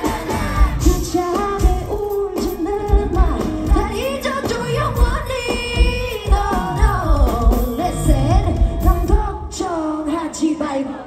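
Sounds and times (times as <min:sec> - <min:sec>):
pop band playing: 0:00.0 - 0:11.0
woman singing: 0:00.0 - 0:11.0.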